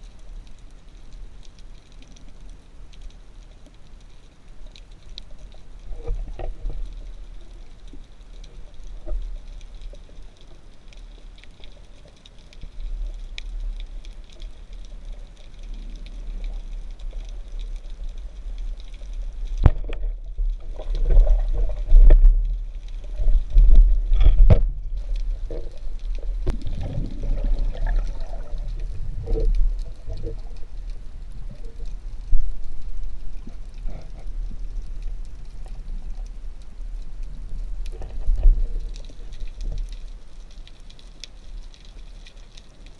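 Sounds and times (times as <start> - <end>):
underwater rumble with gurgling: 0.0 - 42.9
water sloshing and bubbling: 0.0 - 42.9.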